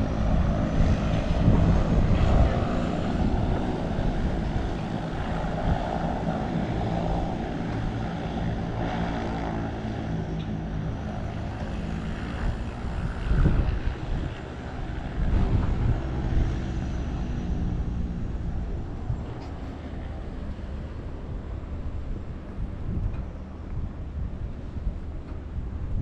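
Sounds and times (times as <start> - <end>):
propeller engines humming: 0.0 - 26.0.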